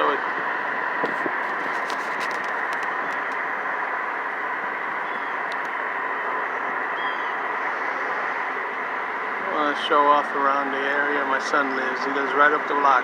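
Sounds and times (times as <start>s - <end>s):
faint steady hum: 0.0s - 13.0s
steady rushing noise: 0.0s - 13.0s.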